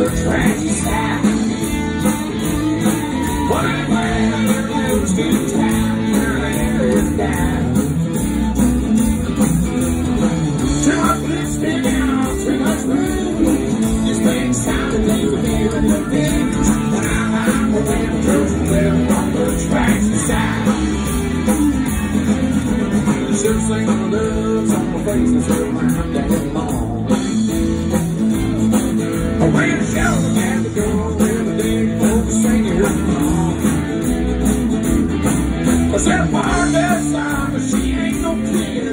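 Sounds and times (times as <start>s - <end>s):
country band playing live: 0.0s - 38.9s
electric guitar: 0.0s - 38.9s
strummed acoustic guitar: 0.0s - 38.9s.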